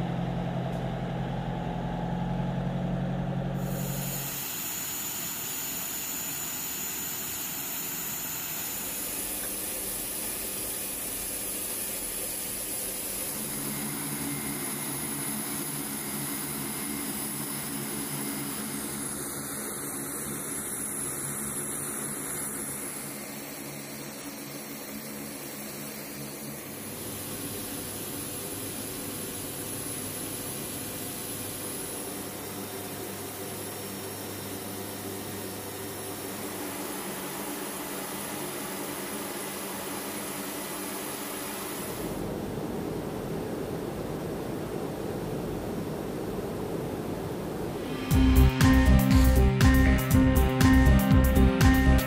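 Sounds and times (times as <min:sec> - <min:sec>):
turbine engine whine and hum: 0:00.0 - 0:52.0.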